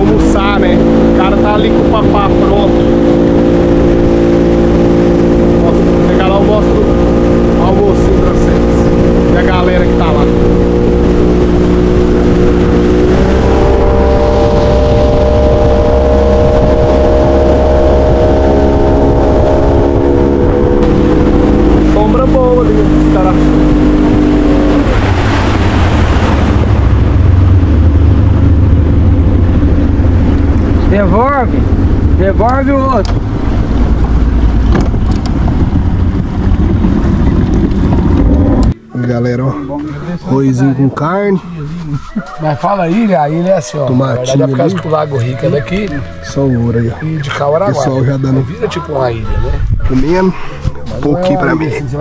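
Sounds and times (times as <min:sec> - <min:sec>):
boat engine rumble: 0:00.0 - 0:52.0
outboard motor running: 0:00.0 - 0:52.0
wind buffeting microphone: 0:00.0 - 0:52.0.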